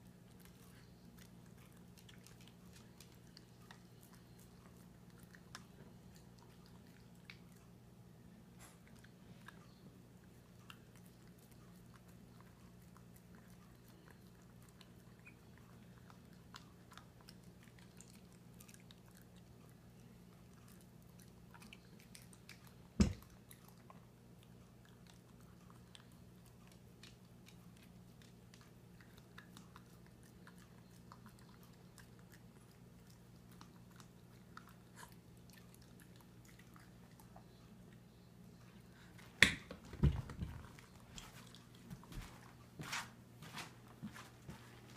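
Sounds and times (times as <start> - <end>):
dog chewing and licking: 0.0 - 7.9, 8.5 - 42.8.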